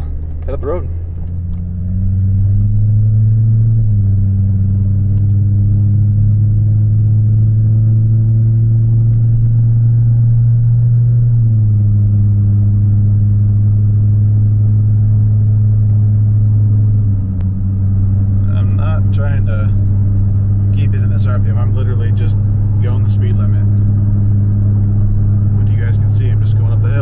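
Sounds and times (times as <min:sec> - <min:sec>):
car engine pulling uphill: 0:00.0 - 0:27.0
deep exhaust drone: 0:00.0 - 0:27.0.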